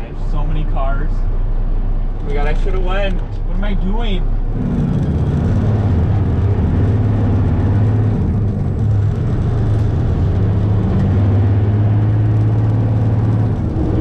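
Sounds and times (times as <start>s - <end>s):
truck diesel engine humming: 0.0s - 14.0s.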